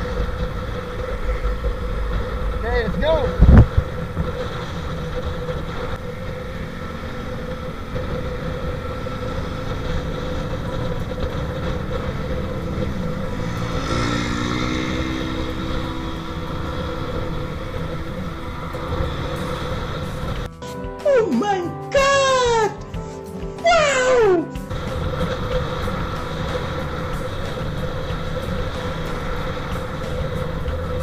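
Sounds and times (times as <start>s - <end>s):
motorcycle engine running: 0.0s - 21.0s, 22.0s - 31.0s
wind and road noise: 0.0s - 31.0s.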